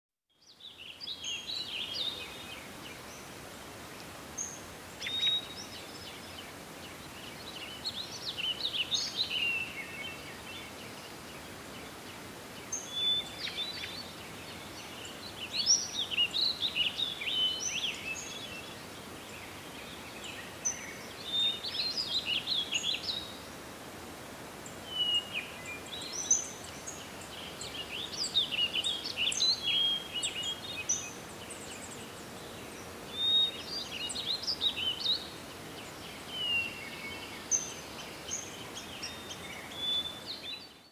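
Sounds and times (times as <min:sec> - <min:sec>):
background hiss: 0:00.3 - 0:40.9.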